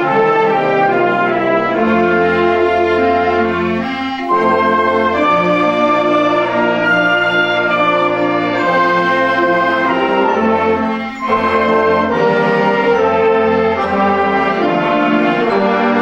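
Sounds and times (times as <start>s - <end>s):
brass held chords: 0.0s - 16.0s
wind band playing: 0.0s - 16.0s.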